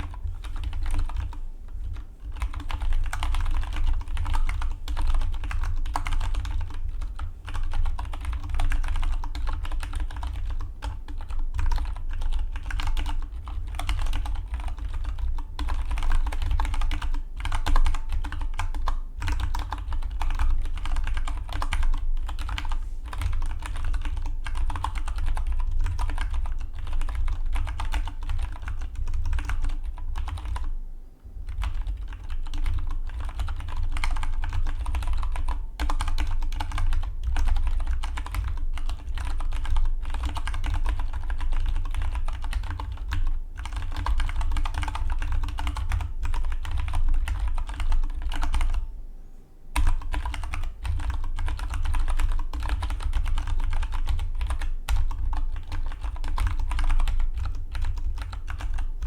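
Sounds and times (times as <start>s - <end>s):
mechanical keyboard typing: 0.0s - 30.7s, 31.5s - 48.8s, 49.8s - 59.0s.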